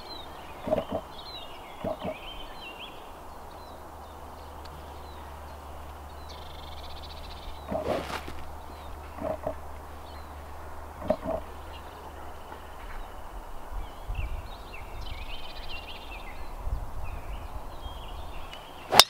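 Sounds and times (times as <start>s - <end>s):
wind rumble on microphone: 0.0s - 18.7s
small birds chirping: 0.0s - 19.0s.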